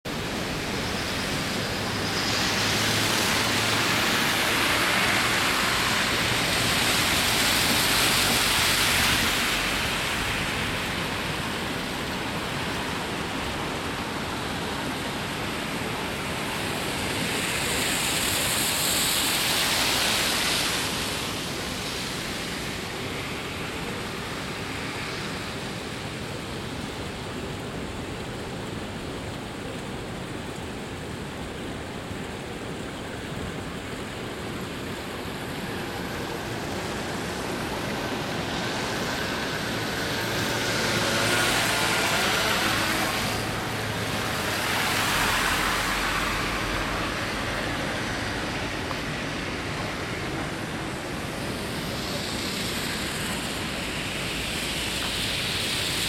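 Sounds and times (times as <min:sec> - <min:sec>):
outdoor rushing noise: 0:00.0 - 0:56.0.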